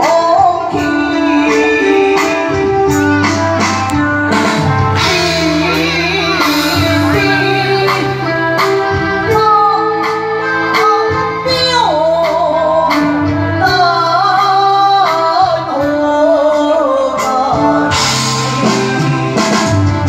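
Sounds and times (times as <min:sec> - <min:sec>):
person singing with vibrato: 0:00.0 - 0:19.5
live backing band: 0:00.0 - 0:20.0.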